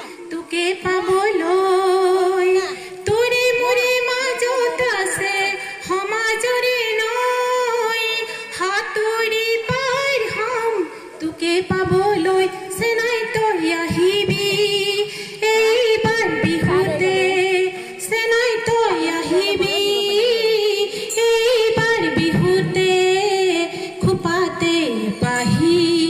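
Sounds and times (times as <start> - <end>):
woman singing through loudspeakers: 0.0 - 26.0.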